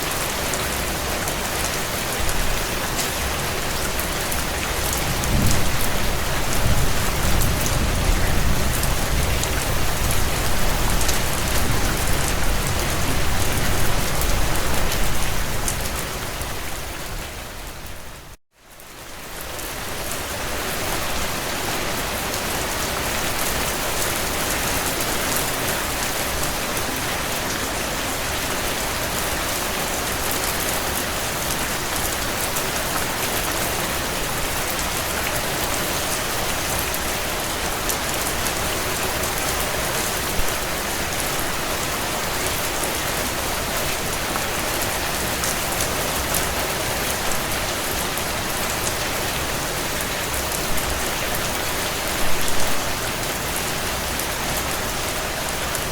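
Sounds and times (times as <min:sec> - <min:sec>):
heavy rain on a tin roof: 0:00.0 - 0:55.9.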